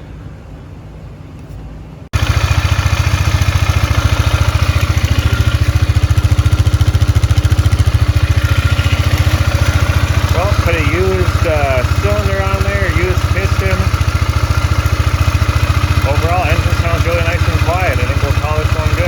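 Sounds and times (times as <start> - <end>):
atv engine idling: 2.2 - 19.0.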